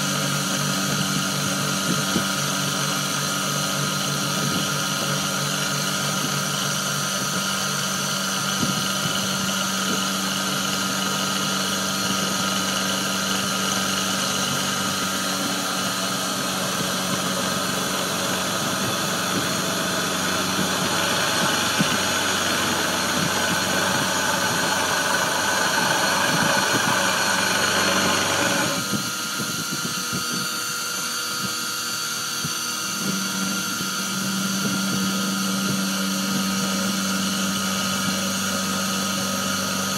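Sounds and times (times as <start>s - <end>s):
high bright machine tone: 0.0s - 39.9s
milling machine whine: 0.0s - 39.9s.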